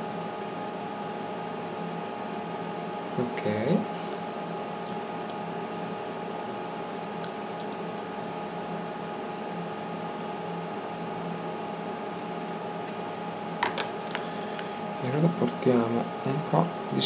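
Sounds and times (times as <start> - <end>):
electric fan hum: 0.0 - 17.0.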